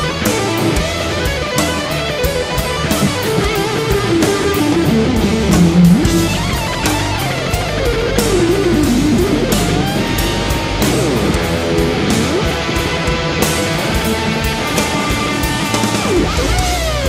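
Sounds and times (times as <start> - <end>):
bass guitar: 0.0 - 17.0
distorted electric guitar lead: 0.0 - 17.0
drums with cymbal beat: 0.0 - 17.0.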